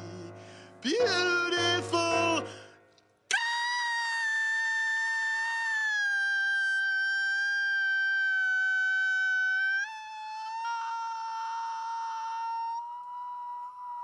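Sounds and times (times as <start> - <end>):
man singing a long high note: 0.0 - 14.0.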